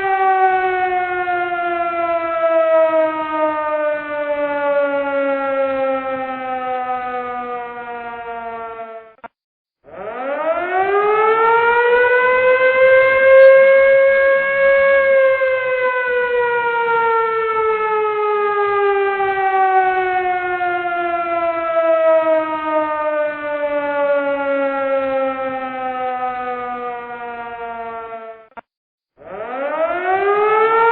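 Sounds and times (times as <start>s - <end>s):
civil defense siren wailing: 0.0s - 9.2s, 9.8s - 28.6s, 29.2s - 30.9s.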